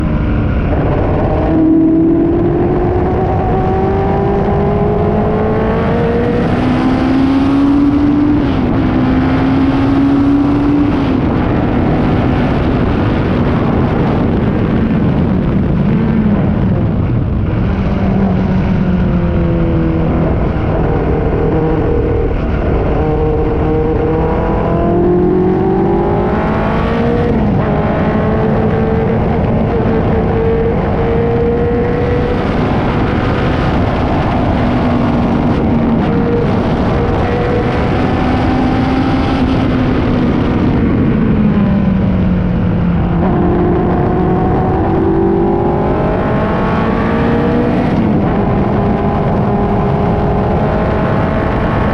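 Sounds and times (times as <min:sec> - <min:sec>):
racing car engine accelerating: 0:00.0 - 0:51.9.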